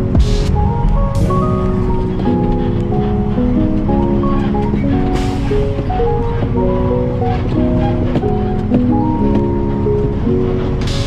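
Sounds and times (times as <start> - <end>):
melody of held notes: 0.0 - 11.0
steady low rumble: 0.0 - 11.0.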